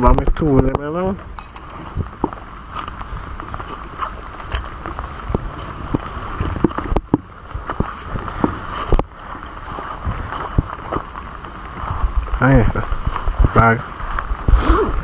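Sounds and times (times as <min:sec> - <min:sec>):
rain hissing: 0:01.0 - 0:15.0.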